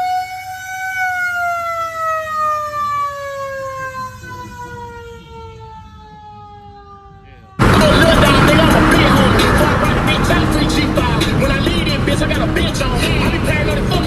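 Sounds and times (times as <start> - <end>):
siren winding down: 0.0 - 14.0.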